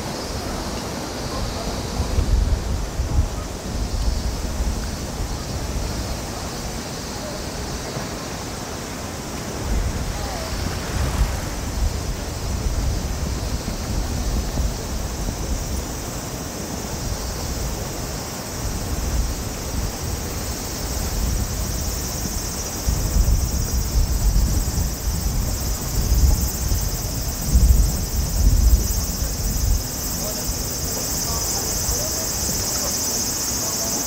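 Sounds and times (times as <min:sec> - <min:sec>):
wind buffeting microphone: 0:00.0 - 0:08.1, 0:09.5 - 0:34.0
city noise: 0:00.0 - 0:34.0
constant high hiss: 0:00.0 - 0:34.0.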